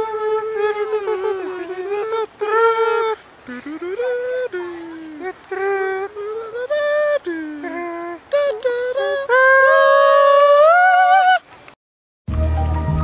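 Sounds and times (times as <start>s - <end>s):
high solo voice singing: 0.0s - 11.5s.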